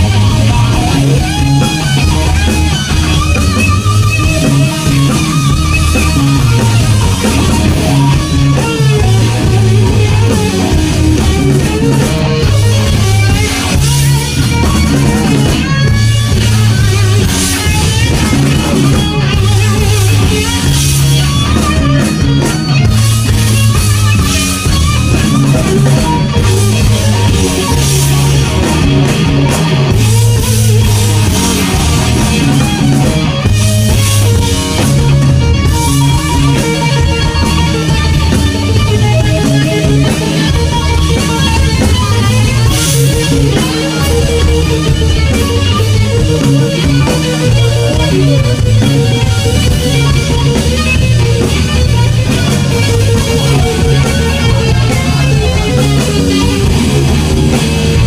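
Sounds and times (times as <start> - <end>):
rock music with electric guitar: 0.0 - 58.0.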